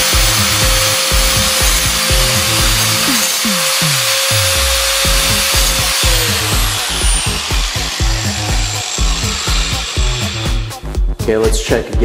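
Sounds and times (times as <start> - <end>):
angle grinder grinding metal: 0.0 - 10.9
background music with beat: 0.0 - 12.0.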